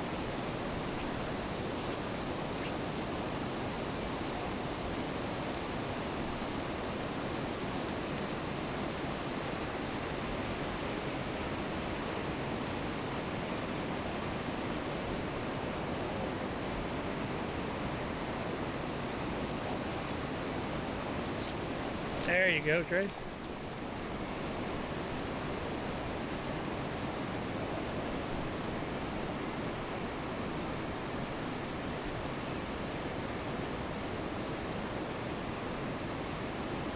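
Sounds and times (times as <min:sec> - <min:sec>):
flowing river water: 0:00.0 - 0:36.9.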